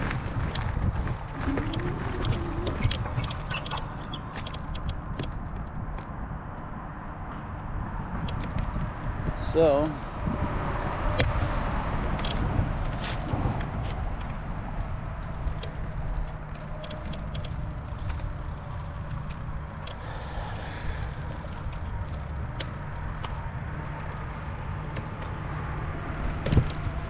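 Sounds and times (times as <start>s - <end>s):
bicycle clicks and rattles: 0.0s - 6.2s, 8.2s - 10.0s, 10.9s - 27.0s
wind and rolling rumble: 0.0s - 27.0s.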